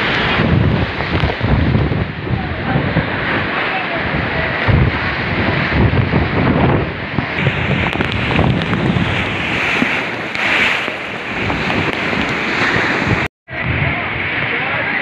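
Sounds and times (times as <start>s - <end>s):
waves breaking against wooden houses: 0.0s - 15.0s
wind buffeting microphone: 0.0s - 15.0s.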